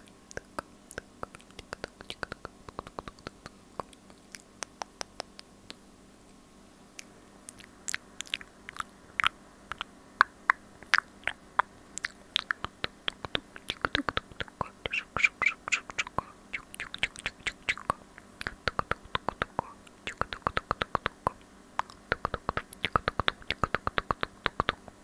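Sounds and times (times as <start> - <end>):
wet mouth clicks and pops: 0.3 - 5.8, 7.0 - 25.0.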